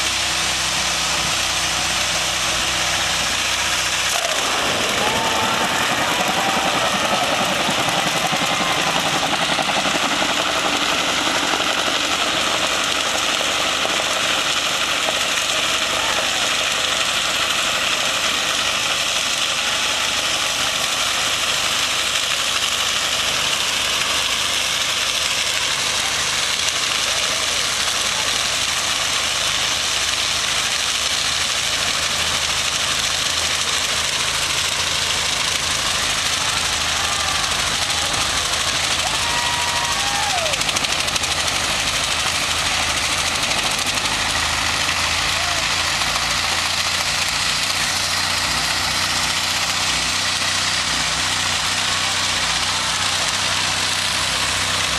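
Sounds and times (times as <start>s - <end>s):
engine at high revs: 0.0s - 54.9s.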